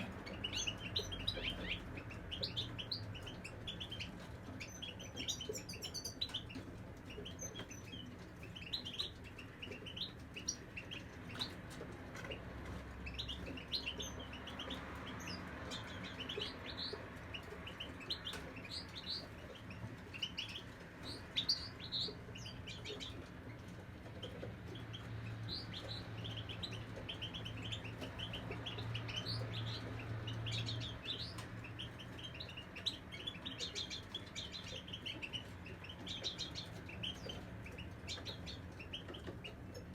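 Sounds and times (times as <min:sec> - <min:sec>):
finches chirping and twittering: 0:00.0 - 0:39.9.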